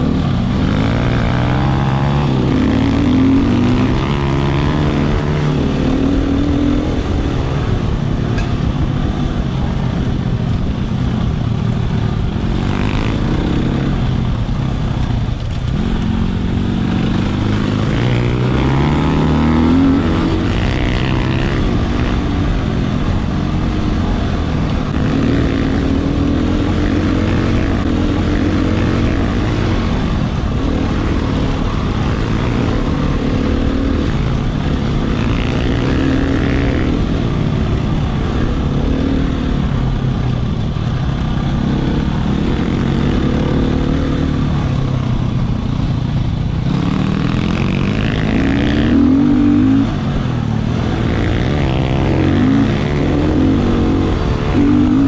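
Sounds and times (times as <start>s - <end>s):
dirt bike engine revving: 0.0s - 9.9s, 11.3s - 55.0s.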